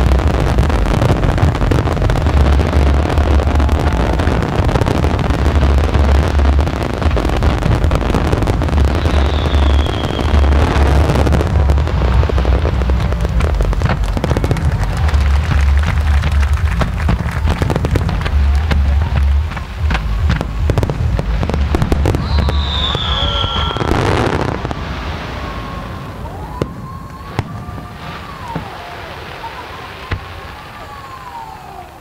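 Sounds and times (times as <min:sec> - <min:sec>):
crackling firework pops: 0:00.0 - 0:24.9, 0:26.2 - 0:28.9, 0:29.5 - 0:31.1
fireworks booming: 0:00.0 - 0:31.9
firework whistle: 0:02.3 - 0:19.0, 0:20.2 - 0:32.0.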